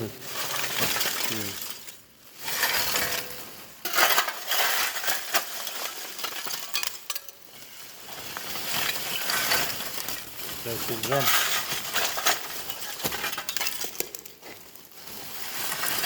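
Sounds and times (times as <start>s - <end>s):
hard objects clinking and rattling: 0.0s - 16.0s.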